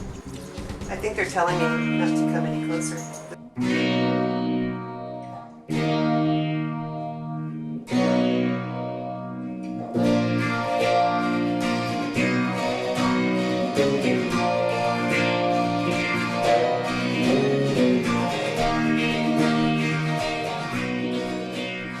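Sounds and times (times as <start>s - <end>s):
guitar strumming chords: 0.0s - 22.0s.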